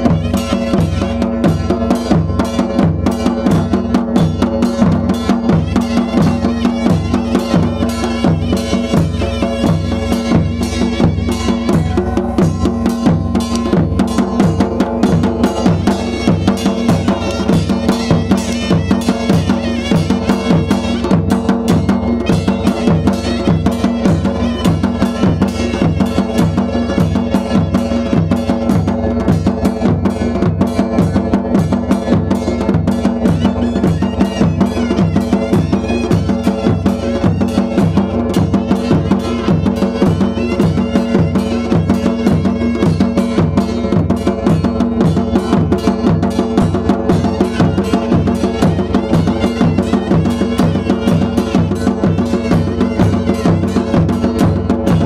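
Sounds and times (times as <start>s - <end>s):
folk dance drumming: 0.0s - 55.0s.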